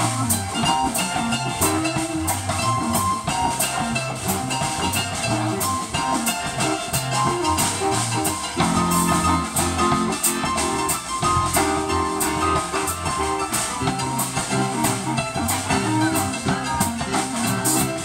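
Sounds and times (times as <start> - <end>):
blues band playing: 0.0 - 18.0
drum and cymbal strokes: 0.0 - 18.0.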